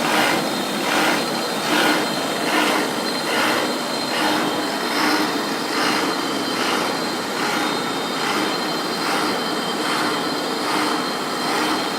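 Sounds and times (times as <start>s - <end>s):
milling machine cutting: 0.0s - 11.9s.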